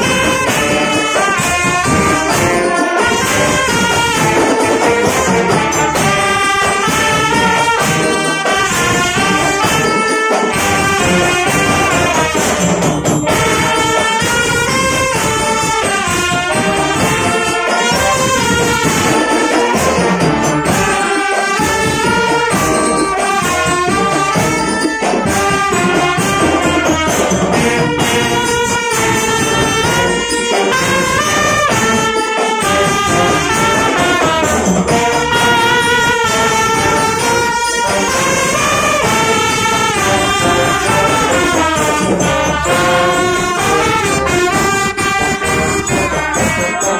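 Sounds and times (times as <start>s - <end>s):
snare drums: 0.0s - 46.9s
trumpets and brass: 0.0s - 46.9s.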